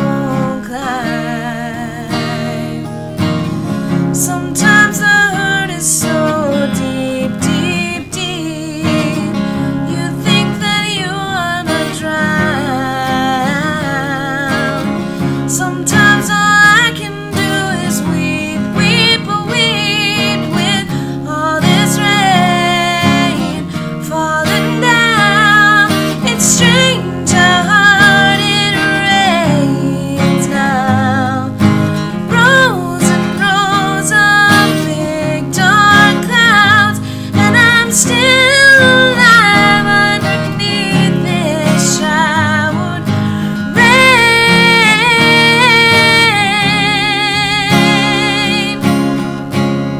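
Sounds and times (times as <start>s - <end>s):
person singing with vibrato: 0.0s - 49.5s
strummed acoustic guitar: 0.0s - 49.9s.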